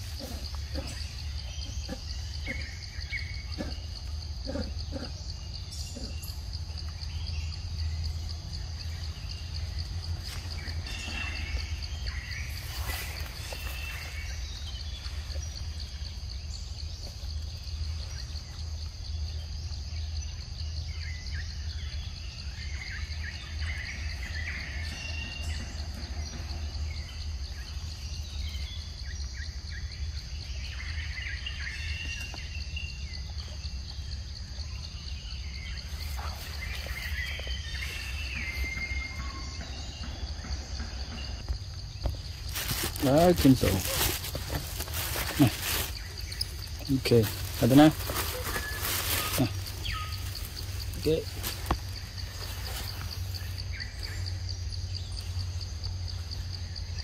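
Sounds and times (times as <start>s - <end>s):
insect chorus pulsing: 0.0s - 57.0s.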